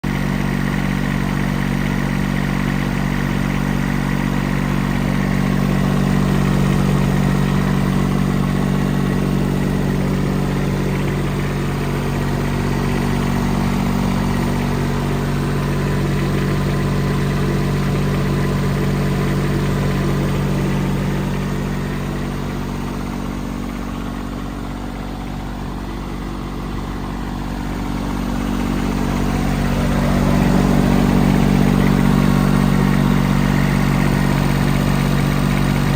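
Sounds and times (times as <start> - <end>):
air compressor idling: 0.0 - 35.9.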